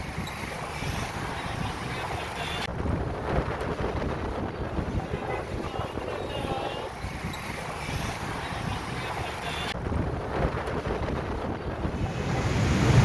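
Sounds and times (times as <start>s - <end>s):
gusty wind: 0.0s - 13.0s
wind buffeting microphone: 0.0s - 13.0s.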